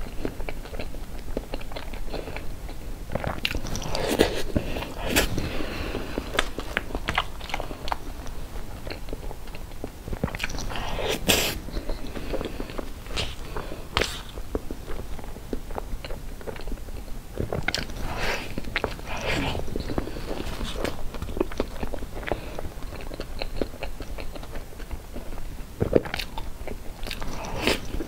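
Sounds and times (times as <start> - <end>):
wet chewing and lip smacking: 0.0 - 28.0.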